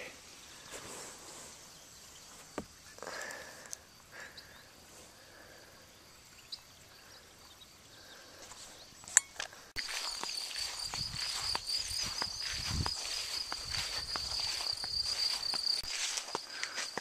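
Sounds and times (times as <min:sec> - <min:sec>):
faint chirps: 0:00.0 - 0:15.9.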